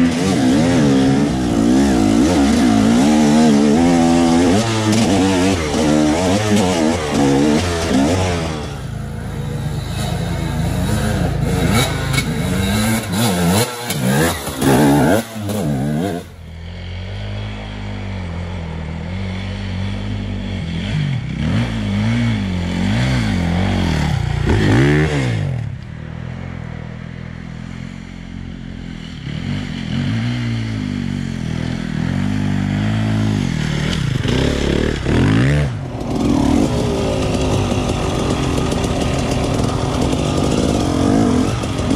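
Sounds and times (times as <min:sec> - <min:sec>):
dirt bike engine revving: 0:00.0 - 0:25.8, 0:28.6 - 0:41.9.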